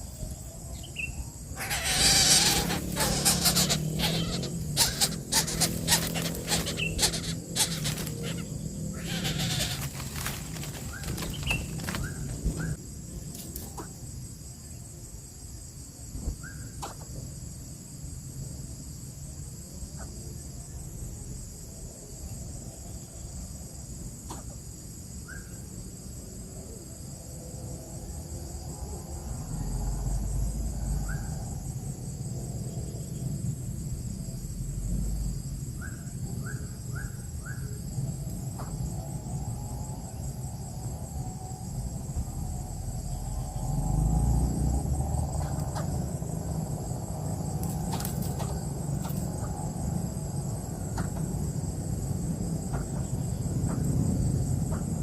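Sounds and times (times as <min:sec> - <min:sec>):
insect chorus: 0:00.0 - 0:55.0.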